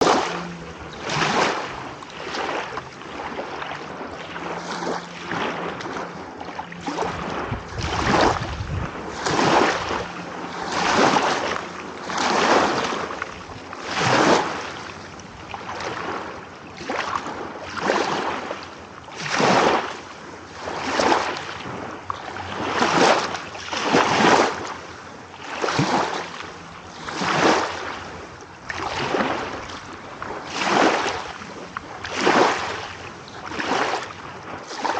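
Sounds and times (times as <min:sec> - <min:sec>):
small waves lapping: 0:00.0 - 0:34.9.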